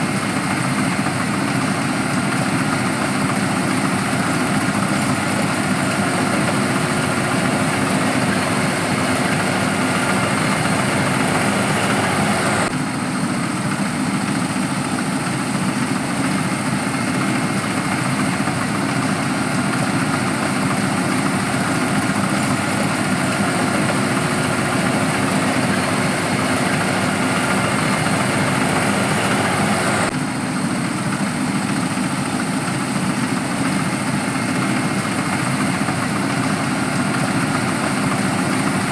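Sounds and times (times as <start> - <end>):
harvesting machine engine running: 0.0 - 30.2, 31.4 - 38.9.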